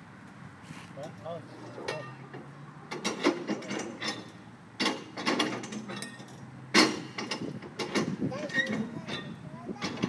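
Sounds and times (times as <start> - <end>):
metal rattling: 1.6 - 10.0
sharp metallic clanks: 1.6 - 10.0.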